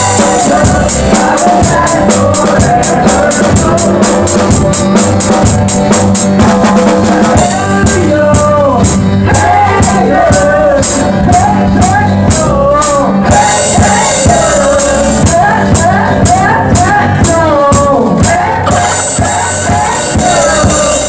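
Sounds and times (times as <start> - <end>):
person singing: 0.0 - 5.8, 6.8 - 21.0
drum beats: 0.0 - 21.0.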